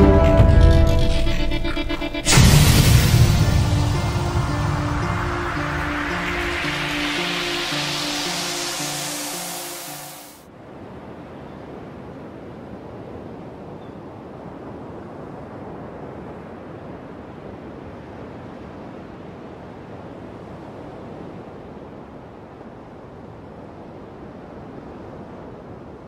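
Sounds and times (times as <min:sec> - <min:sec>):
heavy ocean waves breaking: 0:00.0 - 0:26.0.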